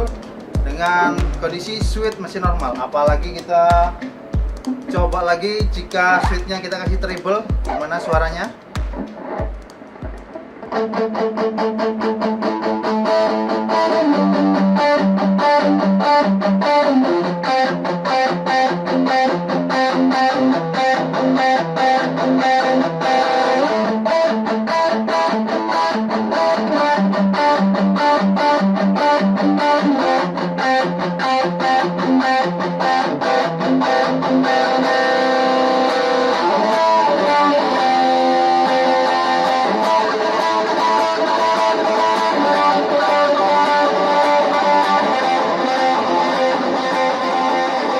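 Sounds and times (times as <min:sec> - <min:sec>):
distorted electric guitar riff: 0:00.0 - 0:47.9.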